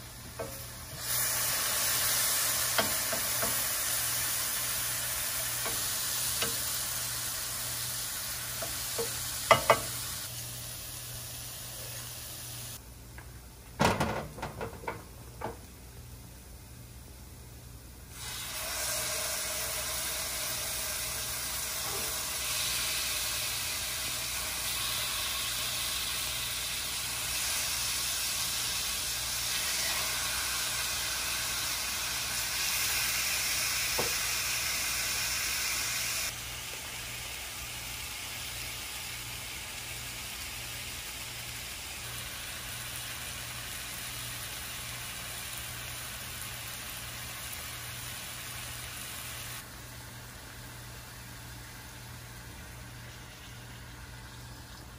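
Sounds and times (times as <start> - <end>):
chicken sizzling in a pan: 0.0 - 12.8, 18.1 - 54.9.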